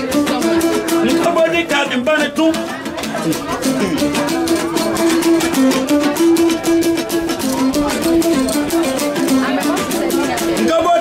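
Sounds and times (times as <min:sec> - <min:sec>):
guitar picked melody: 0:00.0 - 0:11.0.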